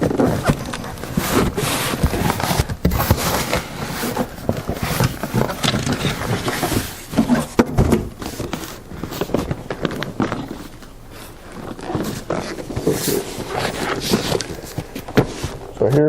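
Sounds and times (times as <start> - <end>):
cardboard box handled and opened: 0.0 - 16.0.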